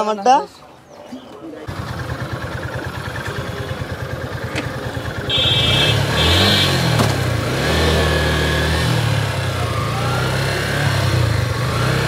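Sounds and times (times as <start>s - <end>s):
motorcycle engines revving: 1.6s - 12.0s.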